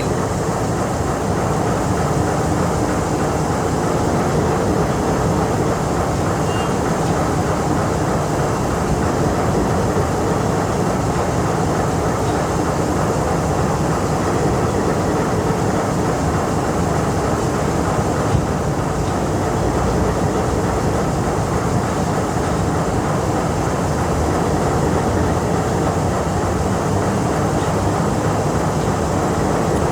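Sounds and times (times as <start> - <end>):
locomotive diesel engine running: 0.0 - 29.9.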